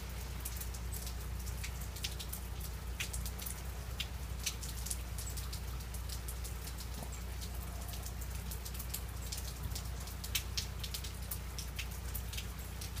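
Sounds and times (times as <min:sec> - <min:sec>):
ice and drops ticking: 0:00.0 - 0:13.0.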